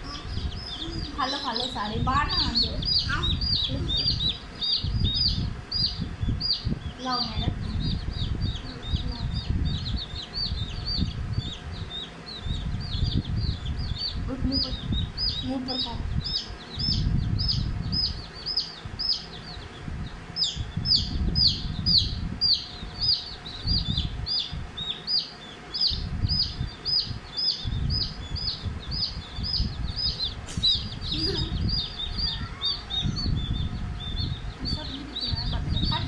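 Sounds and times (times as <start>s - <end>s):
baby chick peeping: 0.0s - 36.0s.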